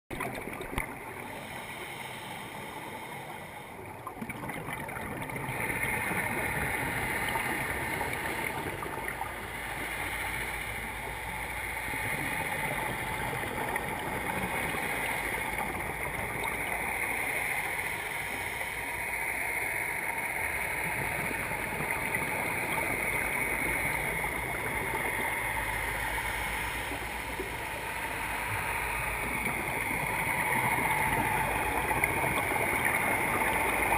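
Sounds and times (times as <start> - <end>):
boat engine heard underwater: 0.1 - 33.9.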